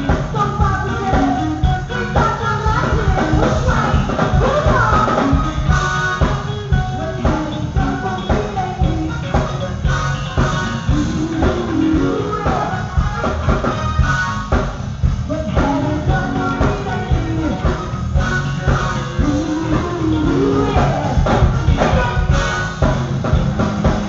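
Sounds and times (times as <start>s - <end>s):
woman singing: 0.0s - 14.1s, 15.3s - 22.6s
bass guitar: 0.0s - 24.0s
drum kit beat: 0.0s - 24.0s
electric guitar: 0.0s - 24.0s.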